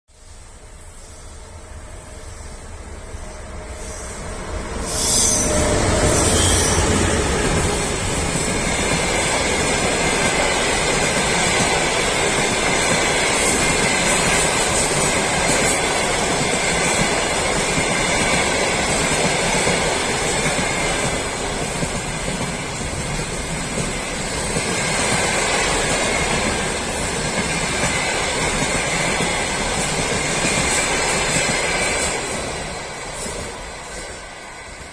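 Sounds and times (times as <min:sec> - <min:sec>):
passenger train rolling past: 0:00.1 - 0:34.9.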